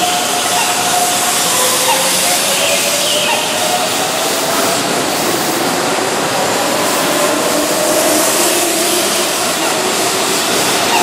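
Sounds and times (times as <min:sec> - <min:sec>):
train rumbling and rolling: 0:00.0 - 0:11.0.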